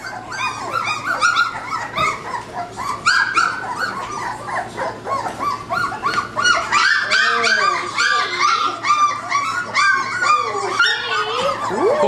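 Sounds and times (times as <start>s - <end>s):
puppies whining and yipping: 0.0s - 12.0s.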